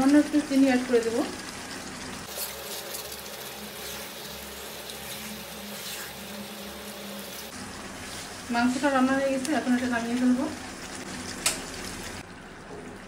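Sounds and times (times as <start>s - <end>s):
curry sizzling in a pan: 0.0s - 13.0s.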